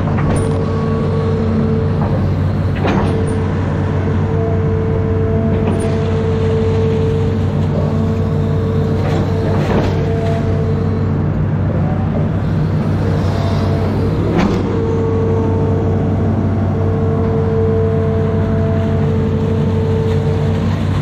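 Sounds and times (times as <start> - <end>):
diesel engine running: 0.0 - 21.0
steady whine: 0.0 - 21.0.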